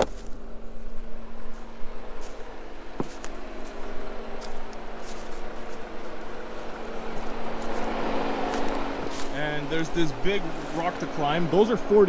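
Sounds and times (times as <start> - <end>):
broad rushing noise: 0.0 - 12.0
car engine running: 0.0 - 12.0.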